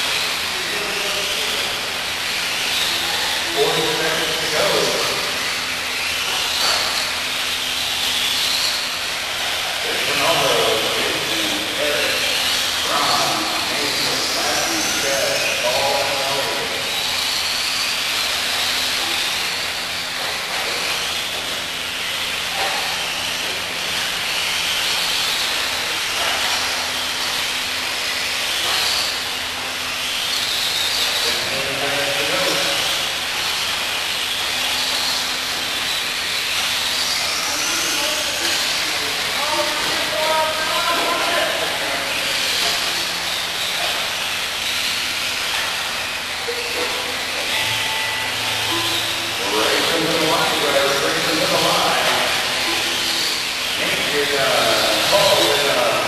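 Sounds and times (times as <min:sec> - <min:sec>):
high motor whine: 0:00.0 - 0:56.0
rc cars racing hiss: 0:00.0 - 0:56.0.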